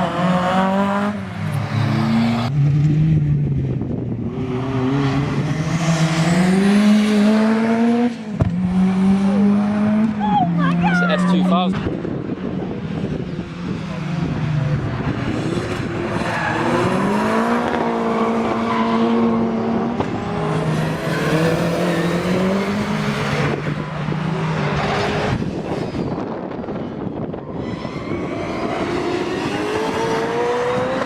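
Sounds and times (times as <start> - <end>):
engine and road noise rush: 0.0 - 31.0
racing car engines revving: 0.0 - 31.0.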